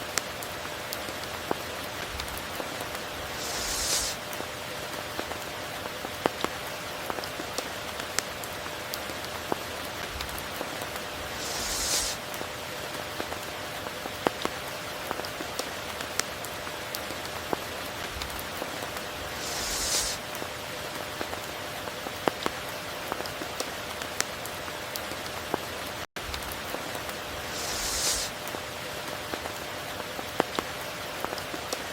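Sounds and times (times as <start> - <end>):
raindrops clicking close by: 0.0 - 31.9
steady rainfall: 0.0 - 31.9.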